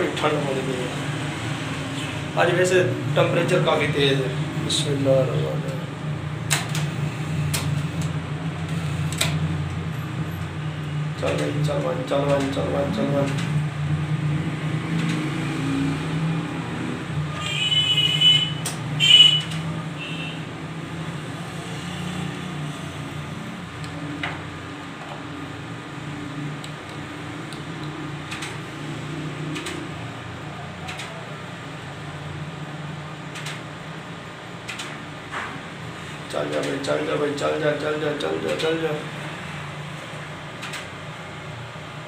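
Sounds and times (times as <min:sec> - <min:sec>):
air conditioner hum: 0:00.0 - 0:42.0.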